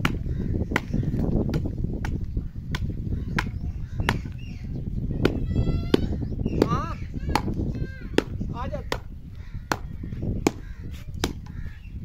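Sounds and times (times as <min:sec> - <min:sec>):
wooden pole pounding dry clay: 0:00.0 - 0:04.4, 0:05.2 - 0:11.6.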